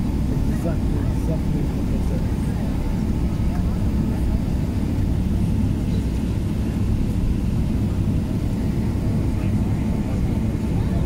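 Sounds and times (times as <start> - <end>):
airliner cabin low rumble: 0.0 - 11.0.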